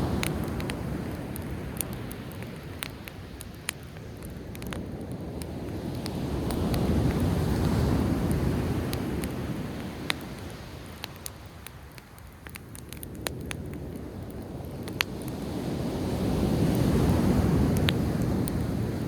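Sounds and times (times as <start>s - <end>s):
sea waves washing on shore: 0.0s - 12.8s, 13.4s - 19.0s
campfire pops and crackles: 0.0s - 19.0s.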